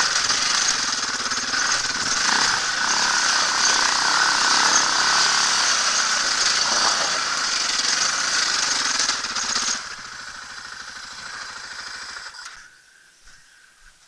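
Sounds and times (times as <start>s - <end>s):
dirt bike engine: 0.0s - 12.8s.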